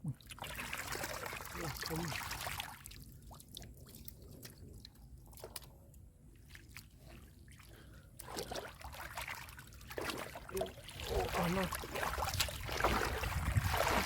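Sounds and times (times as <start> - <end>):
wet mud squelches and drips: 0.0 - 14.0.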